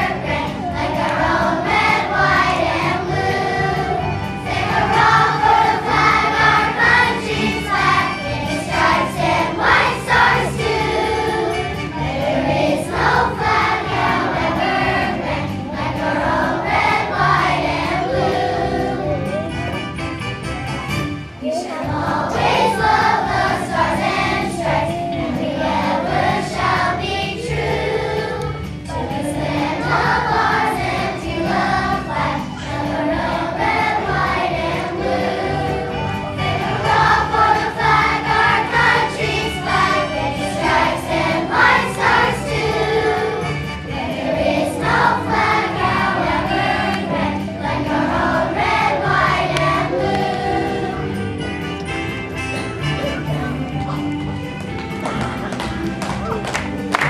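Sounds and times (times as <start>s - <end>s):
children's choir singing: 0.0s - 19.6s, 21.4s - 54.4s
instrumental accompaniment: 0.0s - 57.0s.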